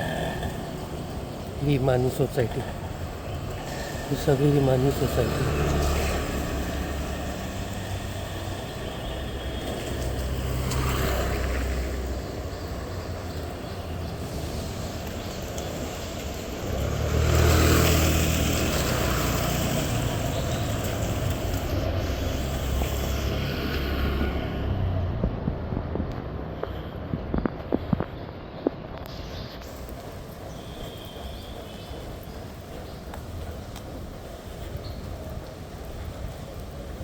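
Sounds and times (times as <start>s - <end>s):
street traffic rumble: 0.0s - 37.0s
vehicles passing by: 0.0s - 37.0s.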